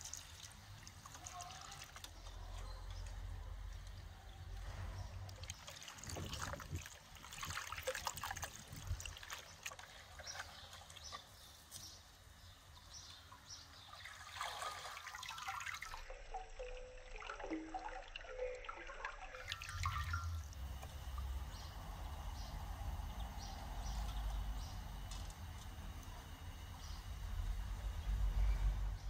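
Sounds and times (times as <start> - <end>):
water trickling and splashing: 0.0 - 27.2.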